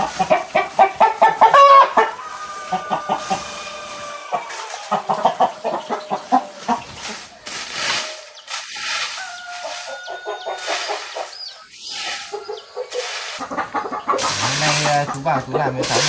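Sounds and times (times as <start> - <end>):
chicken calls: 0.0 - 16.0
chickens clucking: 0.0 - 16.0.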